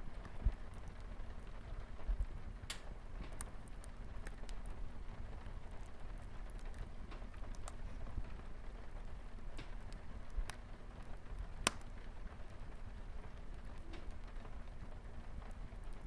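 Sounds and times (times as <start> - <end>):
light rain on a window: 0.0 - 16.0
wood fire crackling: 0.0 - 16.0.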